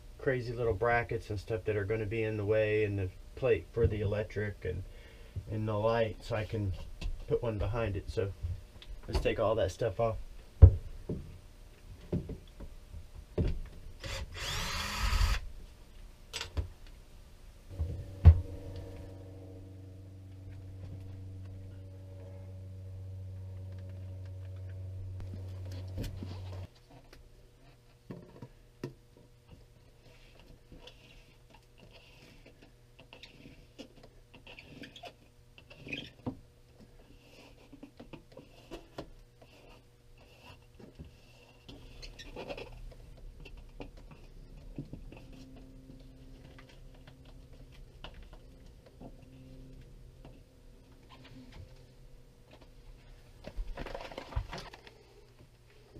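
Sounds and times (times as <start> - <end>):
steady low hum: 0.0 - 31.9, 38.7 - 55.9.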